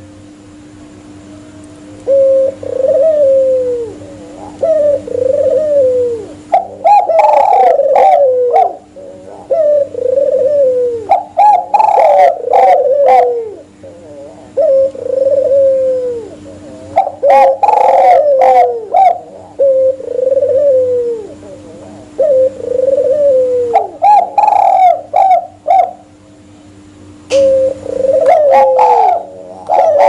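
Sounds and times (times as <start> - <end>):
doves cooing: 0.1 - 30.0.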